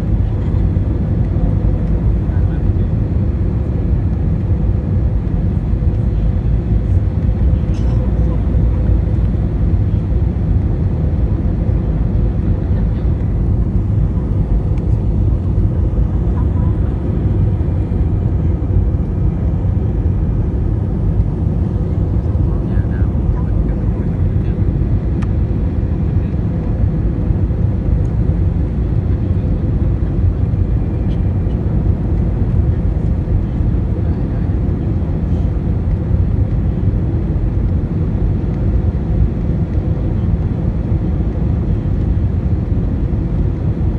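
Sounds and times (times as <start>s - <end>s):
jet engine and airflow rumble: 0.0s - 43.9s.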